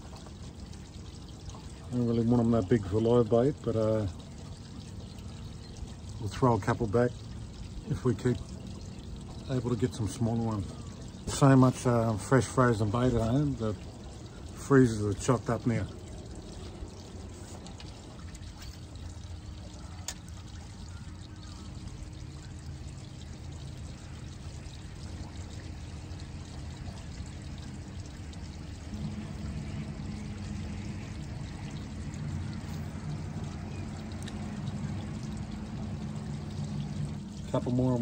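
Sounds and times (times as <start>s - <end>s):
low mechanical hum: 0.0s - 38.0s
water pouring and trickling: 0.0s - 38.0s.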